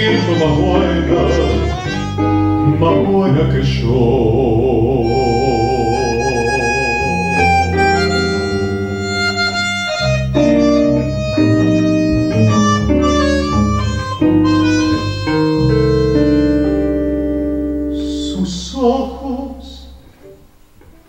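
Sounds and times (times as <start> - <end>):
bandoneon melody: 0.0 - 3.7, 4.7 - 18.2
bass: 0.0 - 20.4
guitar: 0.0 - 21.0.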